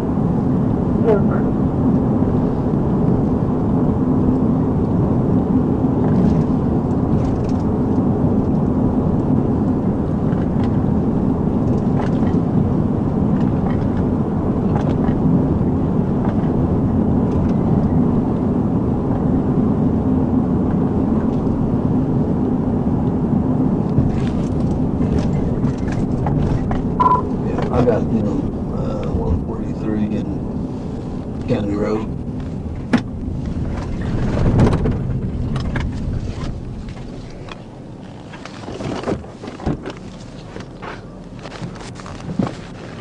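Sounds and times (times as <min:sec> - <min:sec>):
car engine at speed: 0:00.0 - 0:43.0.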